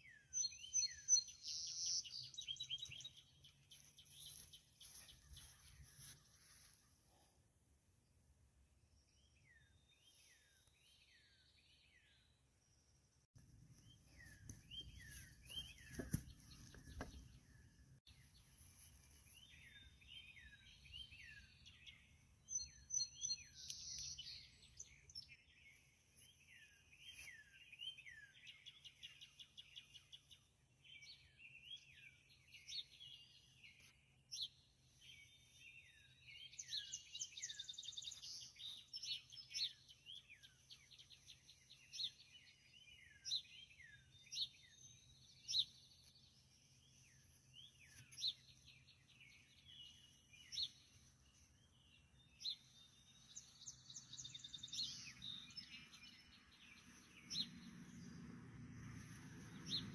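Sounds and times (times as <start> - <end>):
songbirds singing: 0.0 - 7.0, 8.0 - 59.9.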